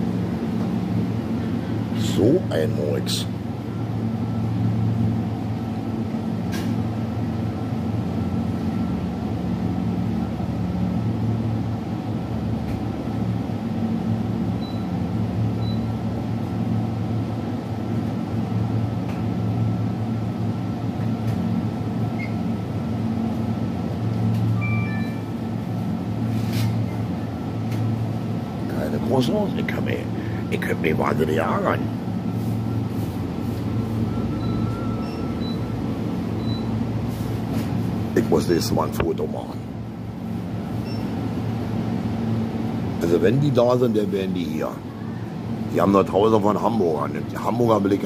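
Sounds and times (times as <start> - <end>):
refrigerator low hum: 0.0 - 48.0.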